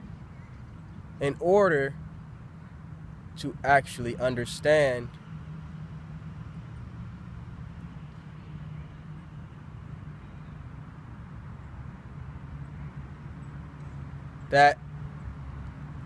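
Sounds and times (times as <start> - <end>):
low rumble of outdoor background: 0.0 - 16.0.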